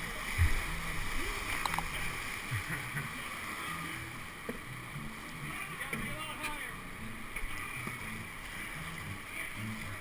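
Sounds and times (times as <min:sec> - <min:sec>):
rushing whitewater: 0:00.0 - 0:10.0.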